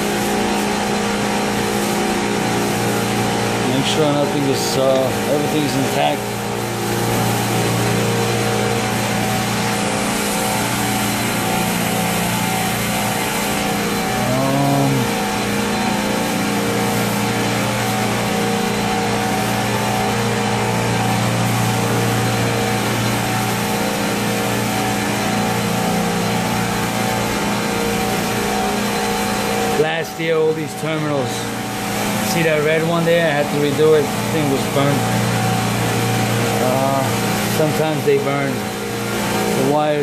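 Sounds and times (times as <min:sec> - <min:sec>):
chiller machinery hum: 0:00.0 - 0:40.0.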